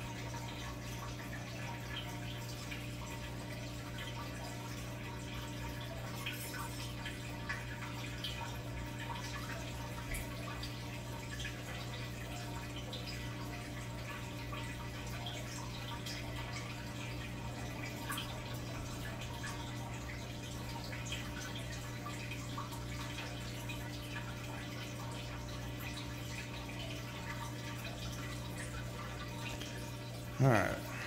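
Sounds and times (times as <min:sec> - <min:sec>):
water trickling and dripping: 0:00.0 - 0:31.0.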